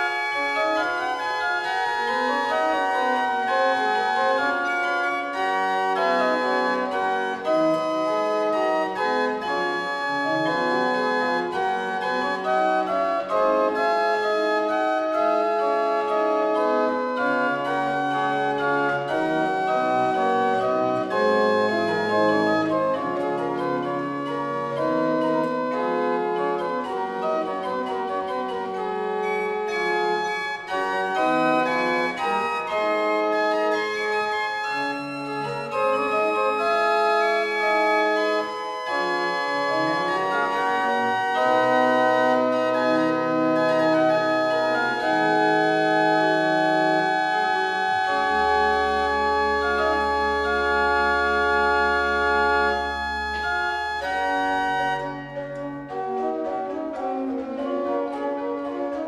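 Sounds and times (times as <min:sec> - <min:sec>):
pipe organ playing: 0:00.0 - 0:59.0
deep organ pedal note: 0:04.0 - 0:59.0.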